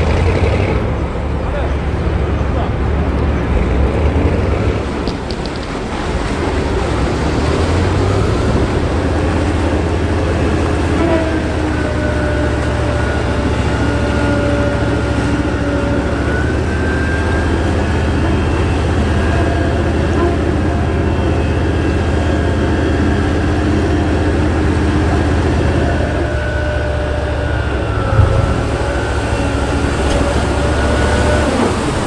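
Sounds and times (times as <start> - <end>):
churning water rushing: 0.0 - 32.0
heavy diesel engine running: 0.0 - 32.0.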